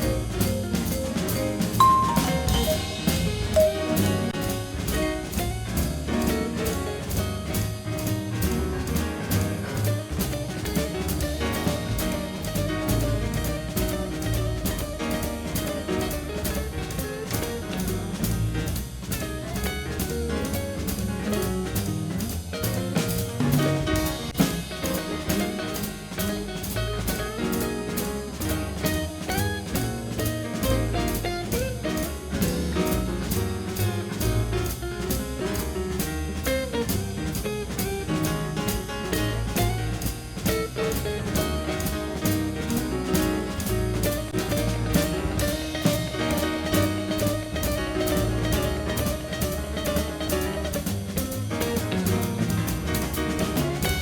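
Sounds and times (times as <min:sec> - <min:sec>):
drum kit beat: 0:00.0 - 0:54.0
jazz music: 0:00.0 - 0:54.0
walking double bass: 0:00.0 - 0:54.0.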